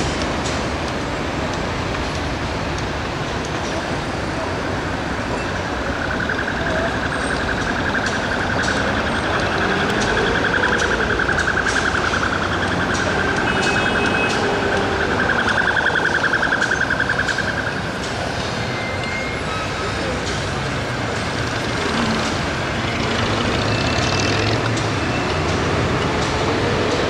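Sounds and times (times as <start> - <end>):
city traffic noise: 0.0 - 27.0.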